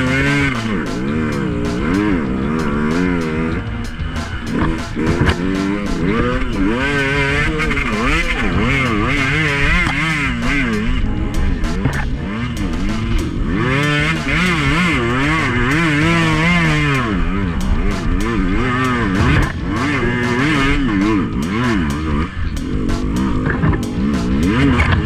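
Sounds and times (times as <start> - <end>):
sharp clicks and knocks: 0.0 - 25.0
two-stroke dirt bike engine revving: 0.0 - 25.0.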